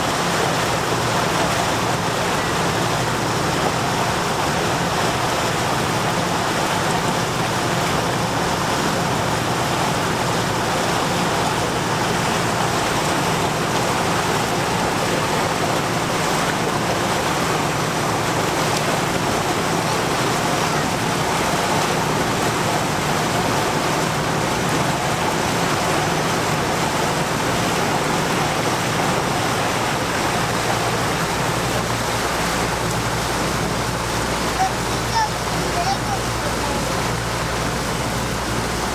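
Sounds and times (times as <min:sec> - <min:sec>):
boat engine hum: 0:00.0 - 0:38.9
water rushing along hull: 0:00.0 - 0:38.9.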